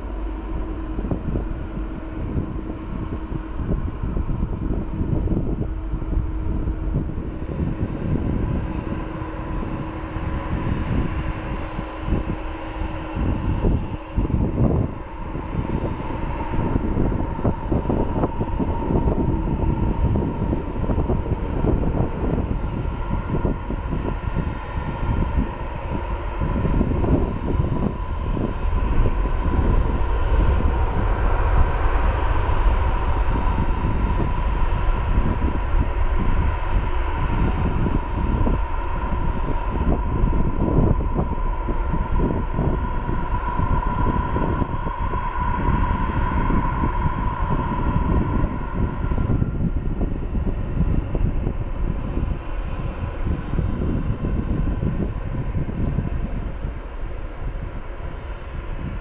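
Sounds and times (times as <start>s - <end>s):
jet engine whine: 0.0s - 59.0s
jet engines roaring at takeoff: 0.0s - 59.0s.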